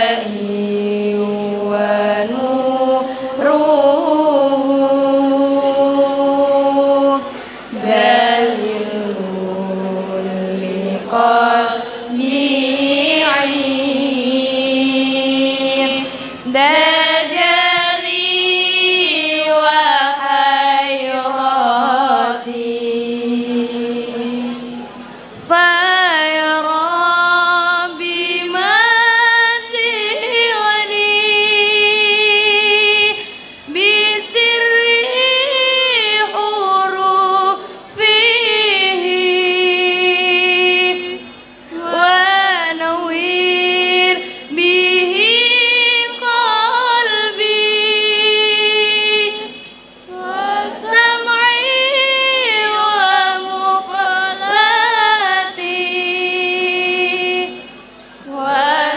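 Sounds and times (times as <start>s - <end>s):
young female voices chanting prayer: 0.0s - 58.9s.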